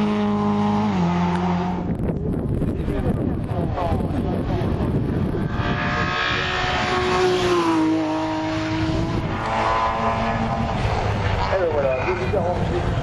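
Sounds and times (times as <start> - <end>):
race car engine passing at high revs: 0.0 - 13.0.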